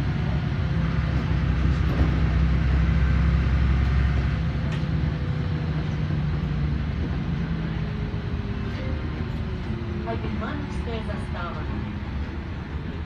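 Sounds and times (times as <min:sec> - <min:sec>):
diesel engine hum: 0:00.0 - 0:13.0.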